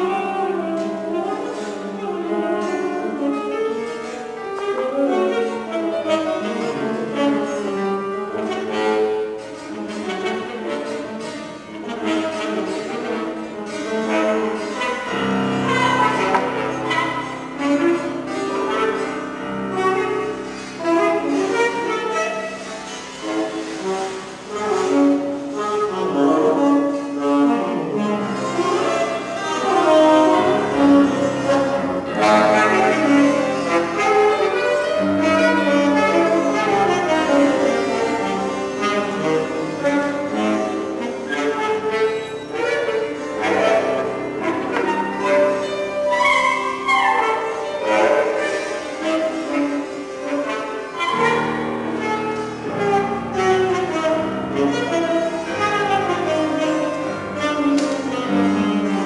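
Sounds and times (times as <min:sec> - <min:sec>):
chamber music on bowed strings: 0:00.0 - 0:59.0.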